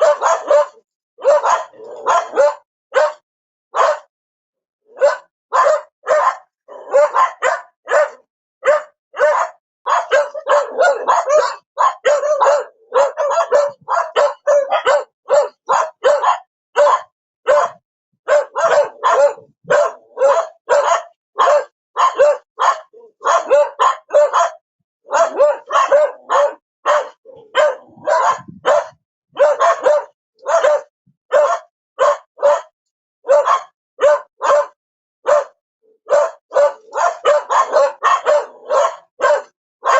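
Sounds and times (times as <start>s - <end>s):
dog barking: 0.0s - 4.1s, 4.9s - 39.9s.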